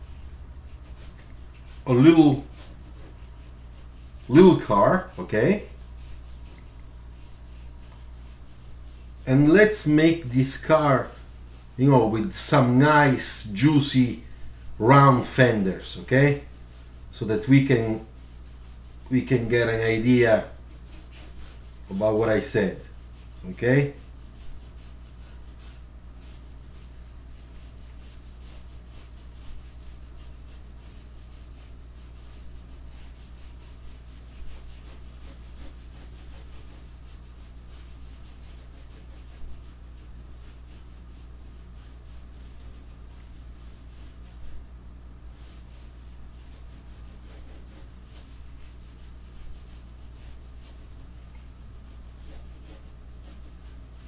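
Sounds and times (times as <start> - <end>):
pencil scratching on paper: 0.0 - 54.0
steady low hum: 0.0 - 54.0.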